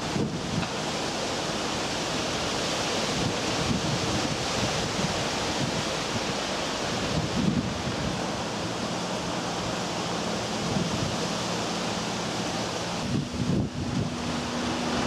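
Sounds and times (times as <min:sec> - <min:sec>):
rain and wind hiss: 0:00.0 - 0:15.0
wind buffeting microphone: 0:00.0 - 0:15.0.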